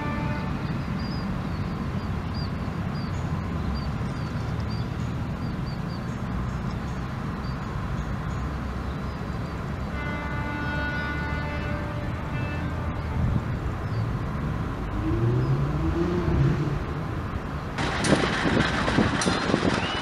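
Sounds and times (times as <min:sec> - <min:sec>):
train rumbling on the track: 0:00.0 - 0:20.0.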